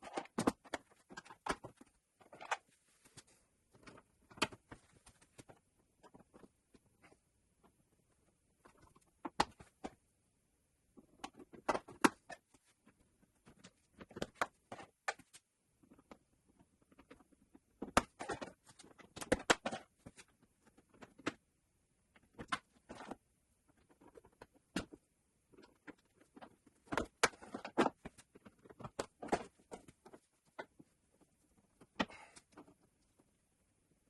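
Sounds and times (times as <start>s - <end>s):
hands handling wiring and tools: 0.0s - 10.1s, 11.0s - 33.4s.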